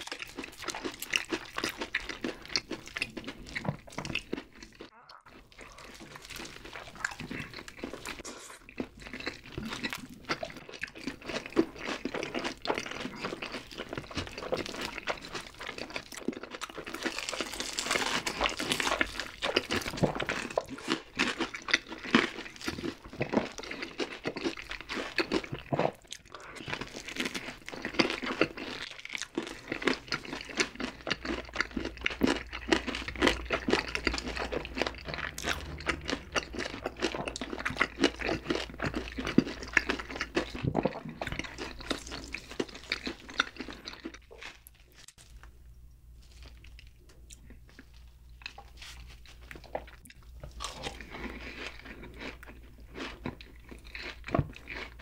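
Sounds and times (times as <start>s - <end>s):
crunching and wet chewing: 0.0s - 55.0s.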